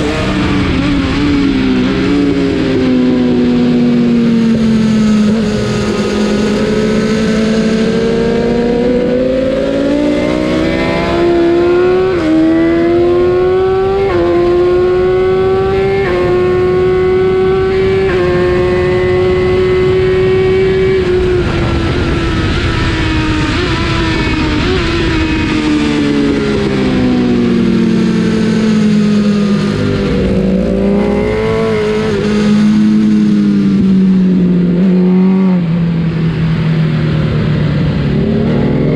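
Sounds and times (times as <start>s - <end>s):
motorcycle engine shifting gears: 0.0s - 38.9s.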